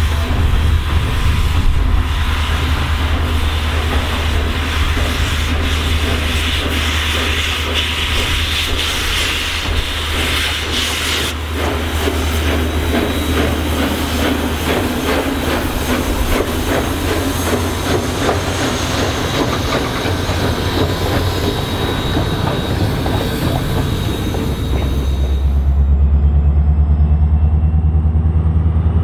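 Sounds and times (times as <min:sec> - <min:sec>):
train wheels clicking over rails: 0:00.0 - 0:26.0
train rumble: 0:00.0 - 0:29.0.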